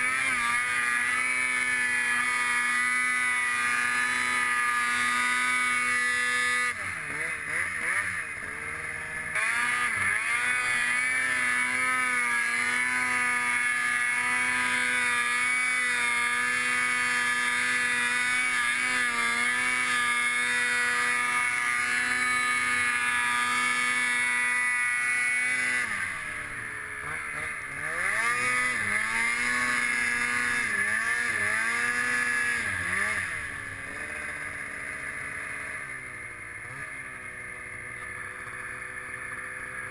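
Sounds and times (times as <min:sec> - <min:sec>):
snowmobile engine at high throttle: 0:00.0 - 0:39.9.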